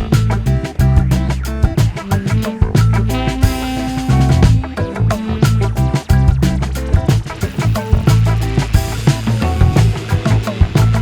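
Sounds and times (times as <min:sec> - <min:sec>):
drum beat: 0:00.0 - 0:11.0
funk music: 0:00.0 - 0:11.0
sustained bass line: 0:00.0 - 0:11.0.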